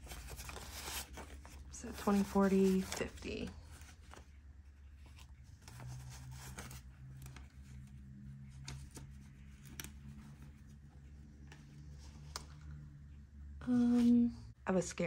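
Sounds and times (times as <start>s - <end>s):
banknotes rustling: 0.0s - 12.9s
low steady hum: 0.0s - 15.0s.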